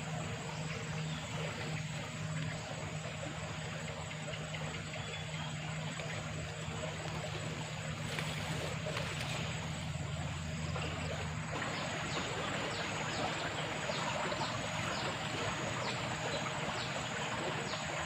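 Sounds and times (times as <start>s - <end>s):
low hum: 0.0s - 18.0s
running water rushing: 0.0s - 18.0s.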